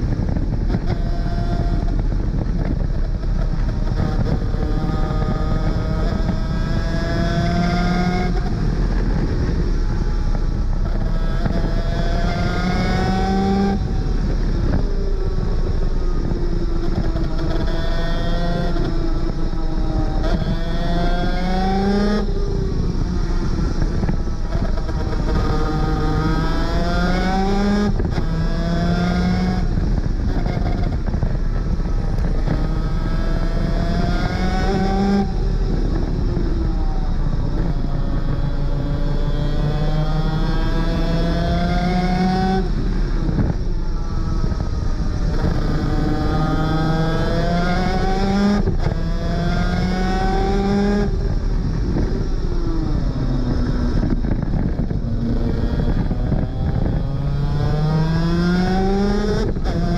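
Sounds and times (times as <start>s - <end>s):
low rumble: 0.0s - 59.9s
kart engine revving through gears: 0.2s - 59.9s.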